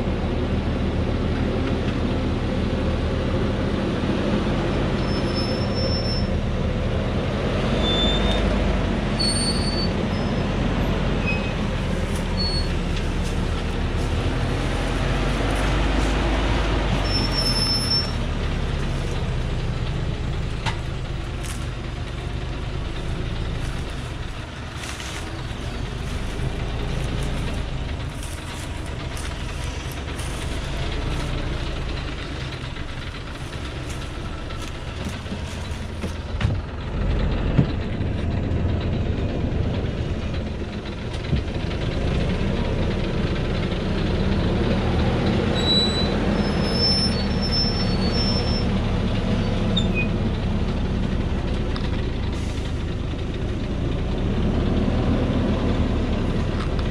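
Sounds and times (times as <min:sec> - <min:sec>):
truck diesel engine under load: 0:00.0 - 0:56.9.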